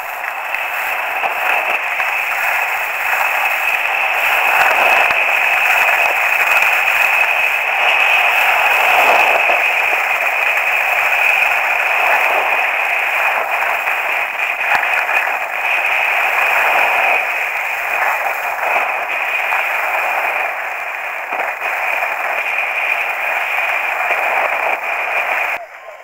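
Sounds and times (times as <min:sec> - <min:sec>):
faint clicks: 0:00.0 - 0:25.6
skis sliding on packed snow: 0:00.0 - 0:25.6
wind over camera microphone: 0:00.0 - 0:25.6.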